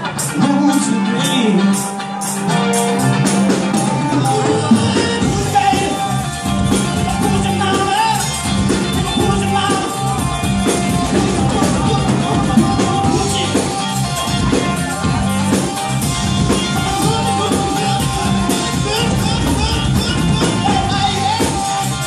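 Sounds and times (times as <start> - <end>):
man singing lead vocal: 0.0 - 2.0, 3.7 - 22.0
live rock band playing: 0.0 - 22.0.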